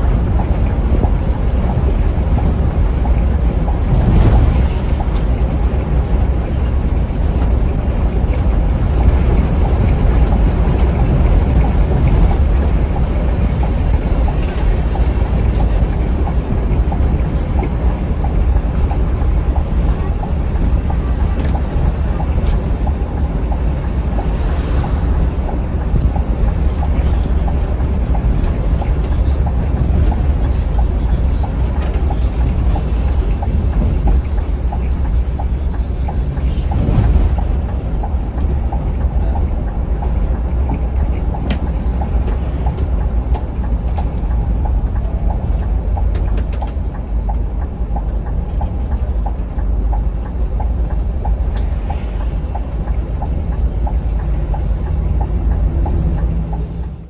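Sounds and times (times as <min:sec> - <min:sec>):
coach engine rumble: 0:00.0 - 0:57.0
road noise: 0:00.0 - 0:57.0.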